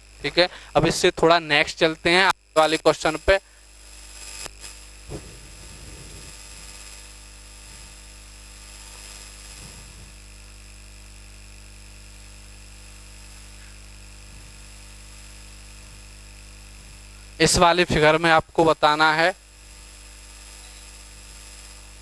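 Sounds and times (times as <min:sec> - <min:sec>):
electrical mains hum and hiss: 0:00.0 - 0:22.0.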